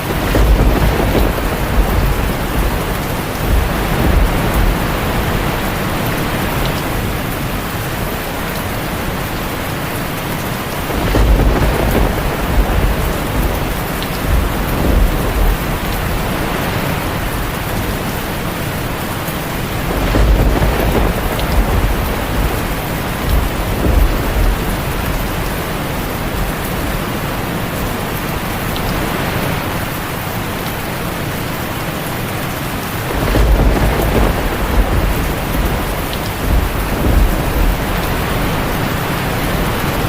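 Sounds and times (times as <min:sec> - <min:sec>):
rolling thunder: 0:00.0 - 0:09.5, 0:10.6 - 0:27.0, 0:33.0 - 0:40.0
heavy rain on a tin roof: 0:00.0 - 0:40.0.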